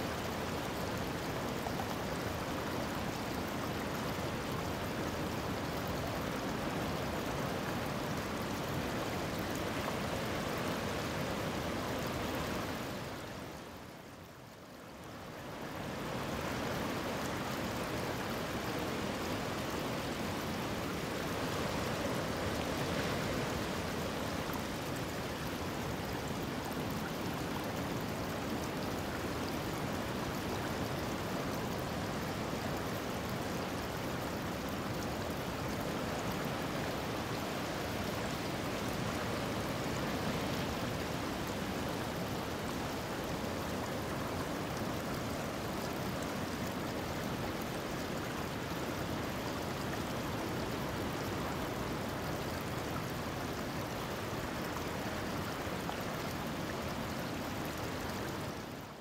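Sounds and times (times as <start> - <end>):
shallow stream babbling: 0.0 - 59.0.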